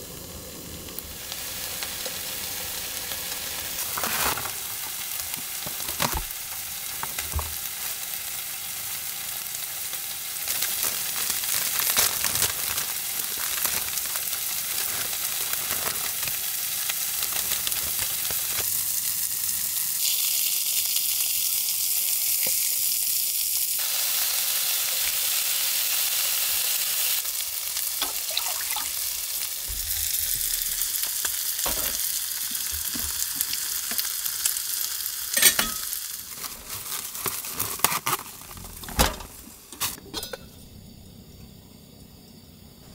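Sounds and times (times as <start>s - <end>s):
fish sizzling in a frying pan: 0.0s - 39.8s.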